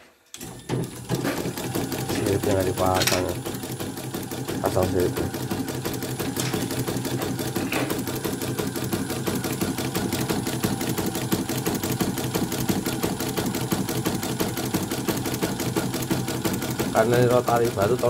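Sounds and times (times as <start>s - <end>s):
embroidery machine stitching: 0.4s - 18.0s.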